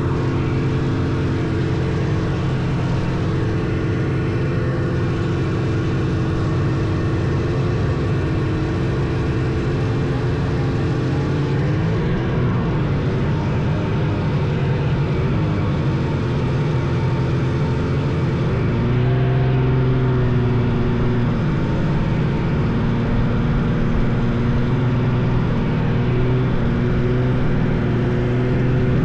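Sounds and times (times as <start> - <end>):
snowmobile engines running: 0.0 - 29.0.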